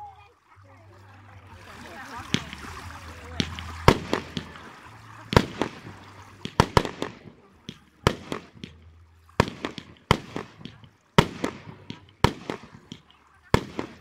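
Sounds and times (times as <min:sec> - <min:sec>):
fireworks bursting: 0:01.7 - 0:14.0.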